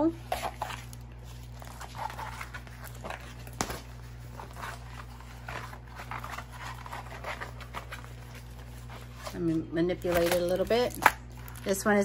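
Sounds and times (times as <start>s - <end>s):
faint rustling of packaging: 0.0s - 12.0s
steady low hum: 0.0s - 12.0s.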